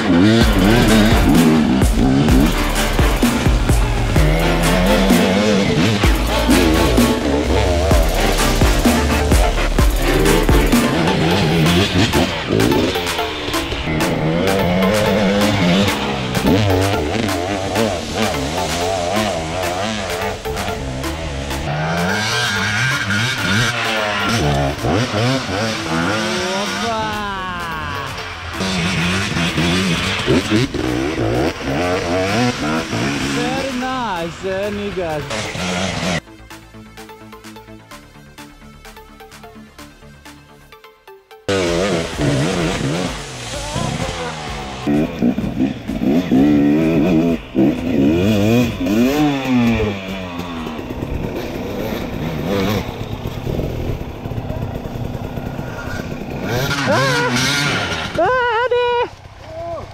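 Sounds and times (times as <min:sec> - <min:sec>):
dirt bike engine revving: 0:00.0 - 0:40.4, 0:41.5 - 0:59.9.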